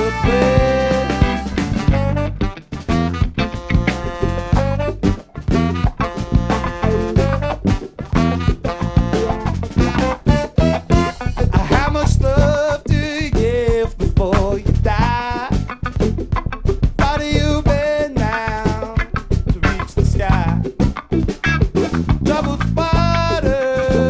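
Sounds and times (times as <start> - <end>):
funk band playing: 0.0 - 24.0.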